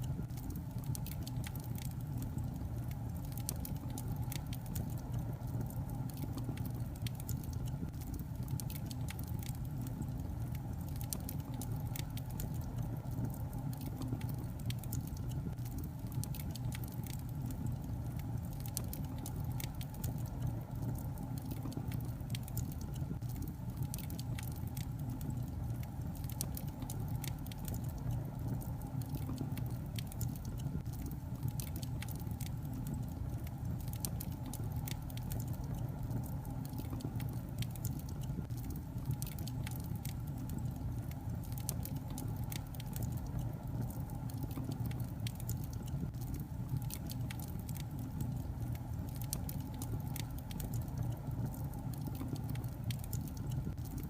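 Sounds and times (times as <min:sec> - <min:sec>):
logs crackling in fireplace: 0:00.0 - 0:54.0.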